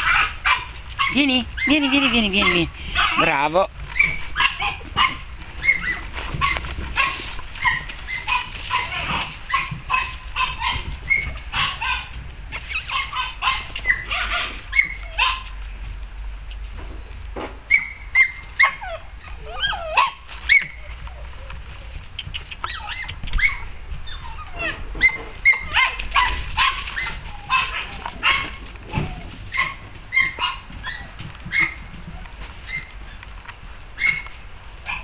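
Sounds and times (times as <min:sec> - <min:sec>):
small dog yipping and whimpering: 0:00.0 - 0:15.5, 0:17.7 - 0:33.2, 0:34.0 - 0:34.3.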